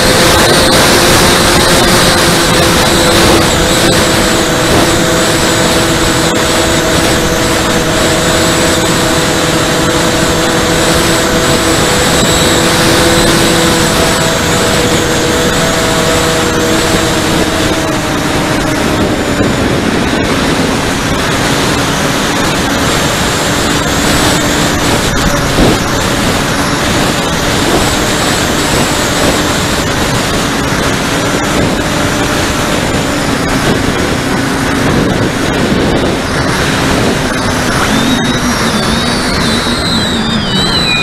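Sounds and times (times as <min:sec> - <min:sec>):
propeller hum with high whine: 0:00.0 - 0:41.0
wind rush on microphone: 0:00.0 - 0:41.0.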